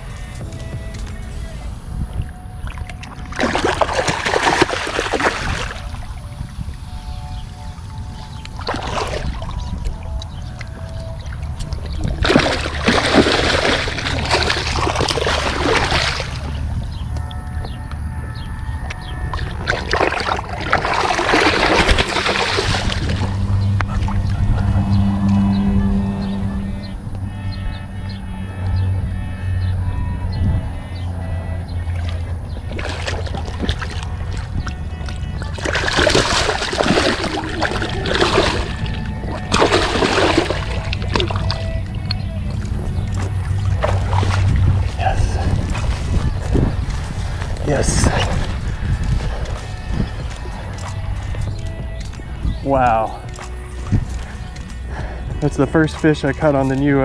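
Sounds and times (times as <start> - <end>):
water splashing and sloshing: 0.0 - 27.2, 31.4 - 57.0
wind rumble on microphone: 0.0 - 57.0.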